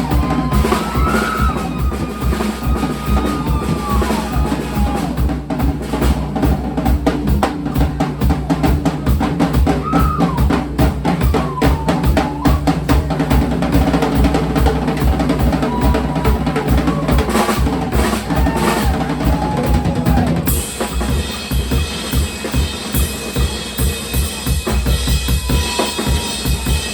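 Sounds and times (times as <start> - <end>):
live band music: 0.0 - 26.9.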